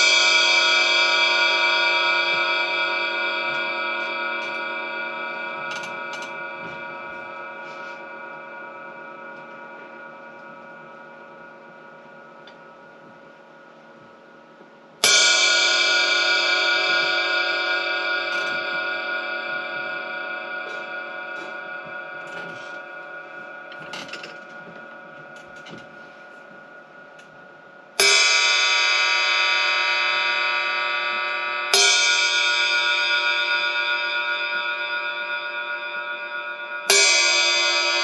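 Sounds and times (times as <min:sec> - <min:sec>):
ride cymbal ringing: 0:00.0 - 0:38.0.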